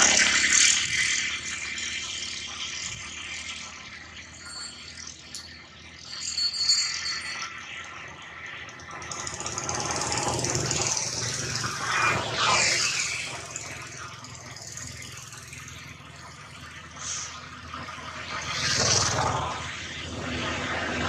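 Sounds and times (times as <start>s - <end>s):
motor engine droning: 0.0s - 21.0s.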